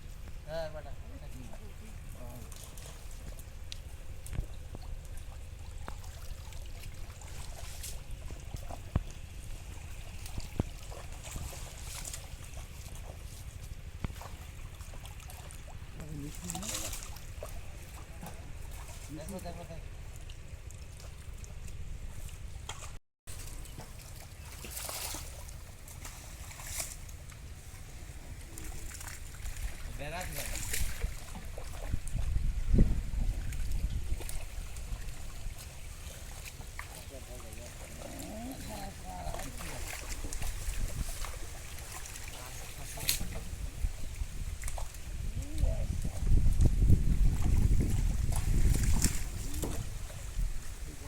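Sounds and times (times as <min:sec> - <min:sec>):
pond water splashing and trickling: 0:00.0 - 0:51.0.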